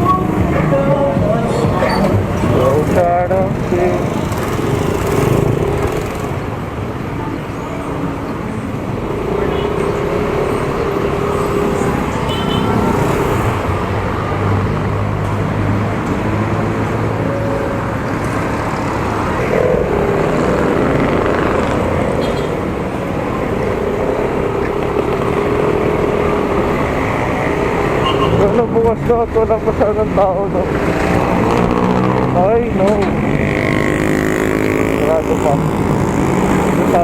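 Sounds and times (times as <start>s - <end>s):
road traffic passing: 0.0s - 37.0s.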